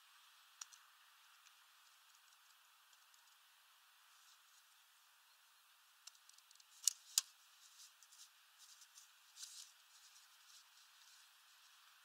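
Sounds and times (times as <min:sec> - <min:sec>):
faint steady hiss: 0:00.0 - 0:12.0
soft ticks and scratches: 0:00.6 - 0:04.8, 0:06.0 - 0:12.0.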